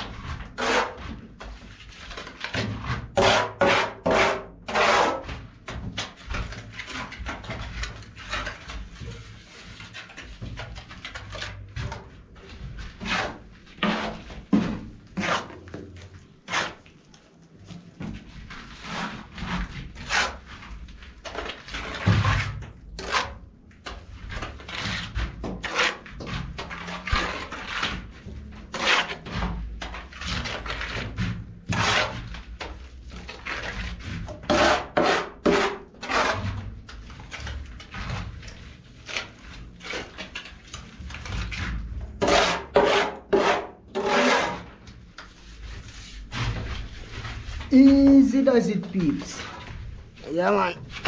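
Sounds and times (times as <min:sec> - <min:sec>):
trowel scraping wet plaster: 0:00.0 - 0:17.3, 0:18.6 - 0:47.5.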